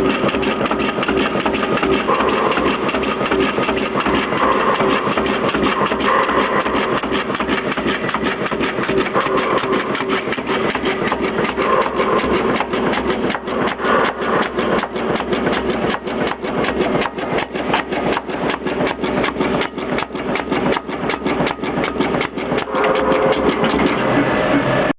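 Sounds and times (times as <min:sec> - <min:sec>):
cutting machine clatter: 0:00.0 - 0:24.9
machine motor noise: 0:00.0 - 0:24.9.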